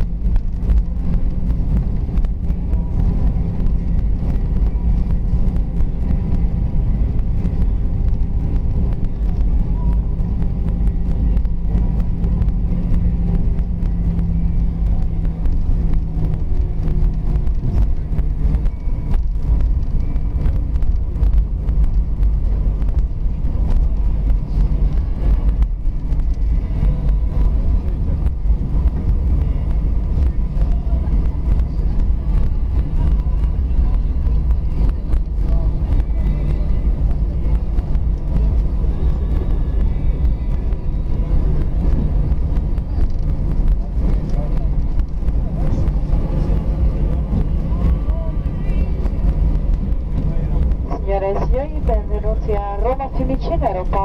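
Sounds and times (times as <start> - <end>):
aircraft cabin low rumble: 0.0 - 54.0
faint engine whine: 0.0 - 54.0.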